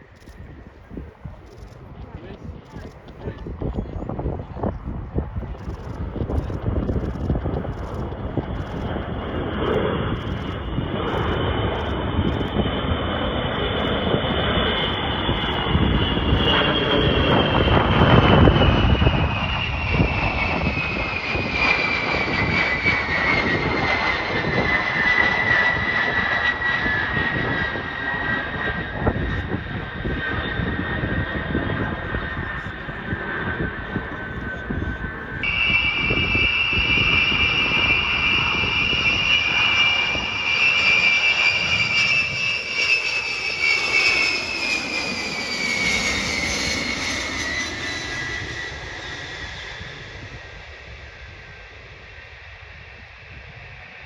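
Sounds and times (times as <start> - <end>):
aircraft flying past: 0.0 - 53.3.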